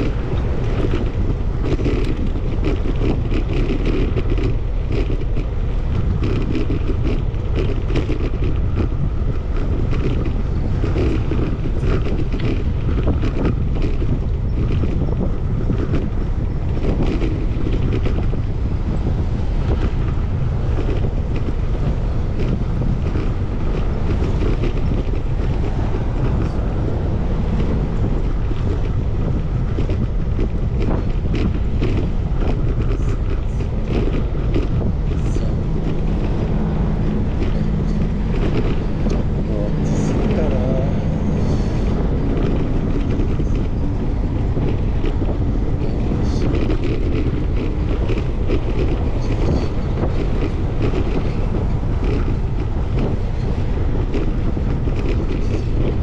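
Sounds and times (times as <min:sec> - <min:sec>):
small clicks and rattles: 0:00.0 - 0:56.0
wind buffeting microphone: 0:00.0 - 0:56.0.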